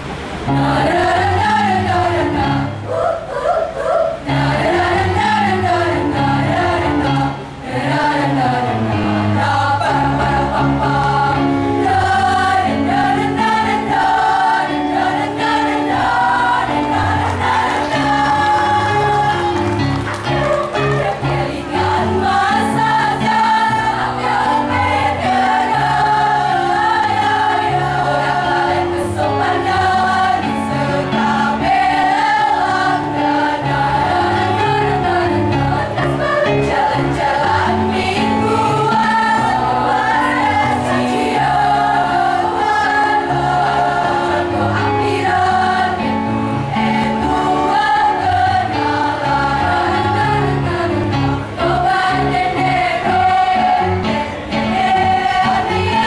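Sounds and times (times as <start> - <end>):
choir singing: 0.5 - 56.0.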